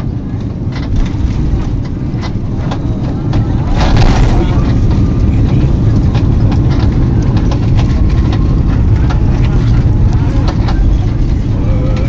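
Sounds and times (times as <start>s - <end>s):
airliner engines and wheels rumbling: 0.0s - 12.0s
sharp clicks and rattles: 0.3s - 12.0s.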